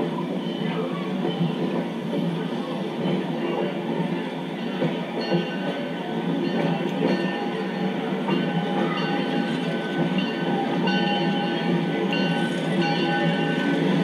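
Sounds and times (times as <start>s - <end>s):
railway car rumbling and rattling: 0.0s - 14.0s.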